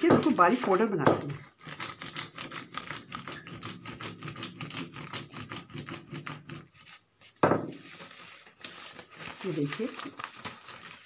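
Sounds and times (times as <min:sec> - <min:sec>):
rolling pin crunching on newspaper: 0:00.0 - 0:03.5, 0:04.2 - 0:11.0.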